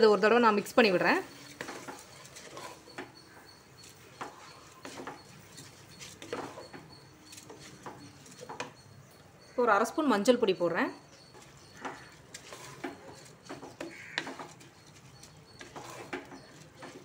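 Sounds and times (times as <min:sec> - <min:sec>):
wooden spatula scraping pot: 0:00.0 - 0:09.5, 0:10.9 - 0:17.0.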